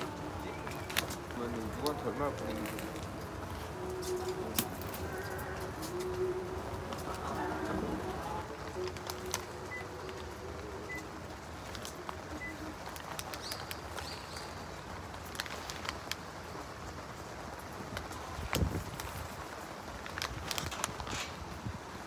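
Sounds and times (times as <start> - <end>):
paper wrapper crinkling: 0.0 - 7.8, 8.4 - 10.9, 11.5 - 16.7, 17.7 - 21.8
outdoor background noise: 0.0 - 22.0.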